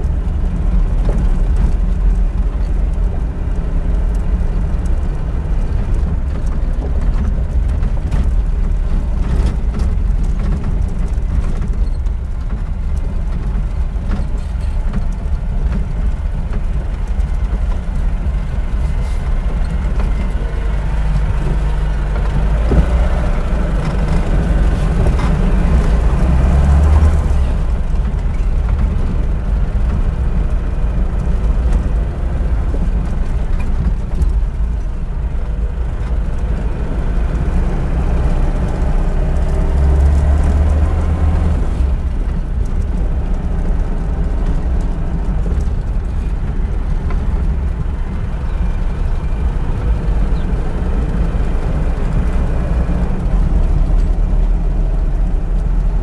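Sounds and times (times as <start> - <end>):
car engine rumbling: 0.0 - 56.0.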